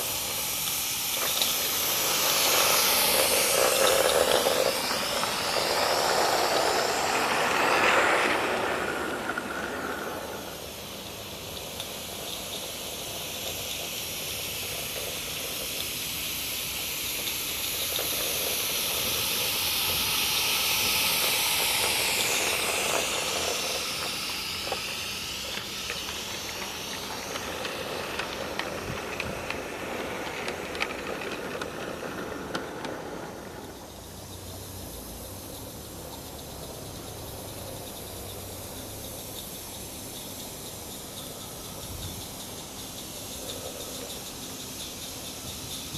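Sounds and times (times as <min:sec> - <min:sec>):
steam locomotive hissing: 0:00.0 - 0:45.9
wagon wheels clicking on track: 0:00.0 - 0:45.9.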